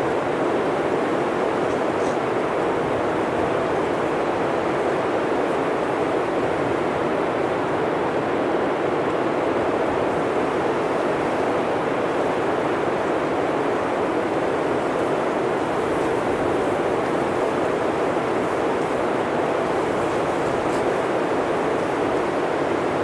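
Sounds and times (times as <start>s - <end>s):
steady blizzard wind: 0.0s - 23.0s.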